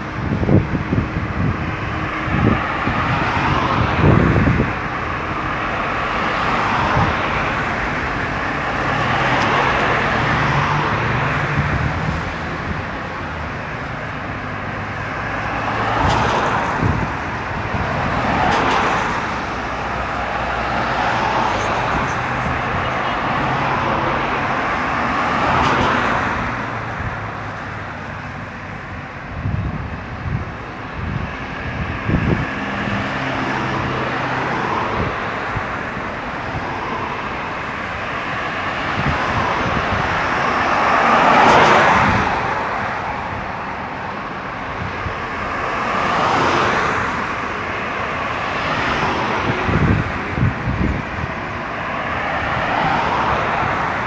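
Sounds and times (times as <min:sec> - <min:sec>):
highway traffic passing: 0:00.0 - 0:54.0.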